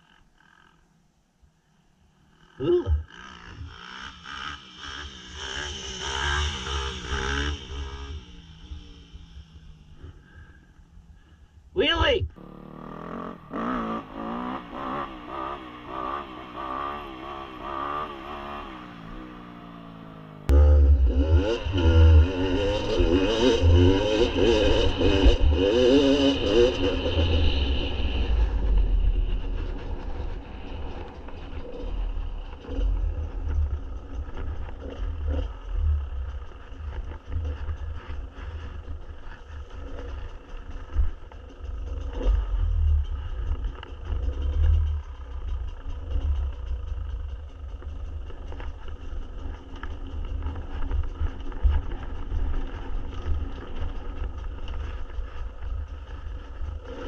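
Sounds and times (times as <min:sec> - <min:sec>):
dirt bike engine revving: 0:02.3 - 0:10.4, 0:12.0 - 0:57.0.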